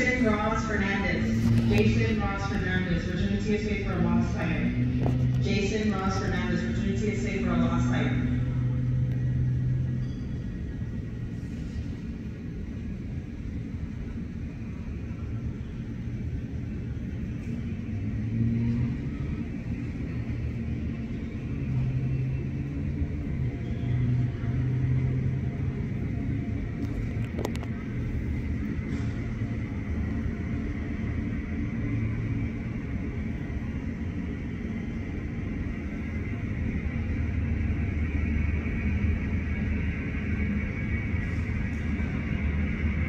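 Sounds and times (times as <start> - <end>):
jet engines rumbling: 0.0 - 43.0
thin high engine whine: 0.0 - 43.0.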